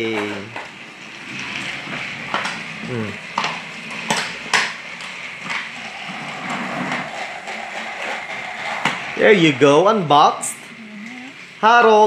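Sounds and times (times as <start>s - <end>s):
toy train motor whir: 1.1s - 11.7s.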